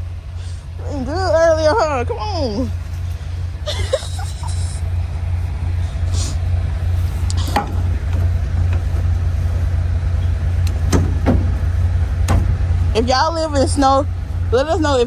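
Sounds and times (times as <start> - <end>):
diesel truck engine droning: 0.0 - 15.0.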